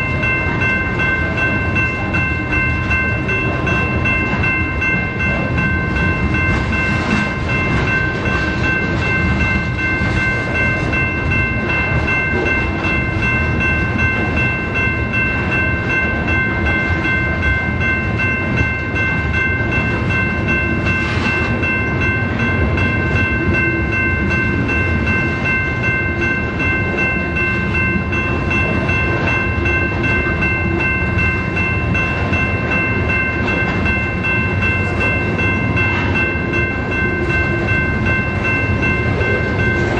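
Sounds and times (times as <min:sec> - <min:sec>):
freight train cars rumbling: 0:00.0 - 0:39.9.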